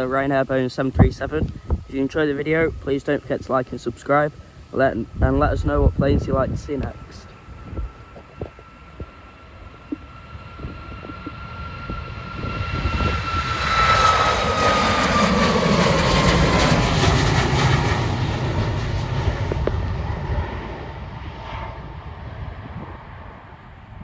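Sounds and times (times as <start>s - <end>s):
jet engines at takeoff thrust: 0.0s - 24.0s.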